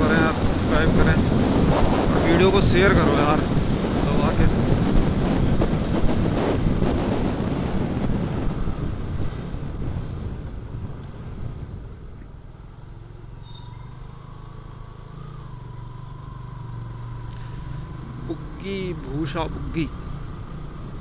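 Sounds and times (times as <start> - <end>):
motorcycle engine humming: 0.0 - 21.0
wind rushing over microphone: 0.0 - 21.0.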